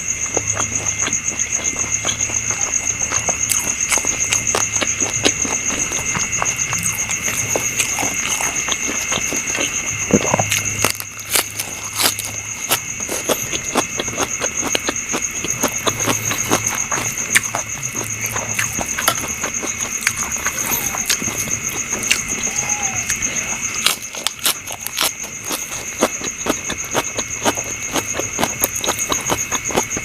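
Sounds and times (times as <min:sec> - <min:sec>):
chewing and lip smacks: 0:00.3 - 0:30.0.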